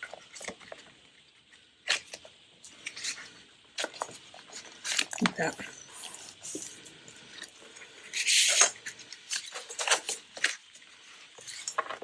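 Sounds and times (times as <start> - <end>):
paper rustling and creasing: 1.5 - 12.0.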